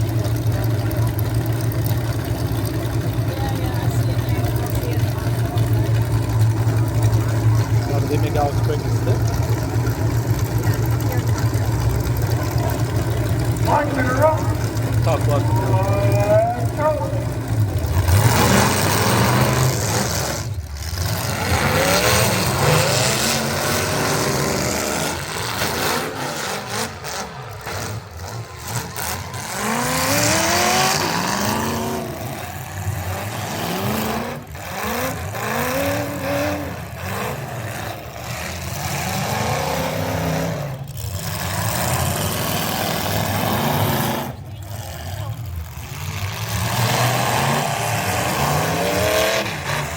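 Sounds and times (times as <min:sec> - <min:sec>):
truck engine revving under load: 0:00.0 - 0:49.9.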